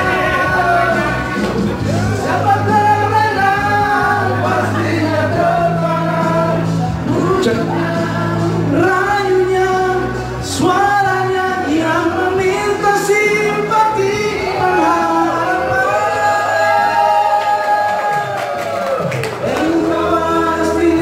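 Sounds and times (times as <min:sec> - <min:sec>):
man singing into microphone: 0:00.0 - 0:18.0, 0:19.3 - 0:21.0
men singing along: 0:00.0 - 0:18.3, 0:19.3 - 0:21.0
backing track with bass line: 0:00.0 - 0:21.0.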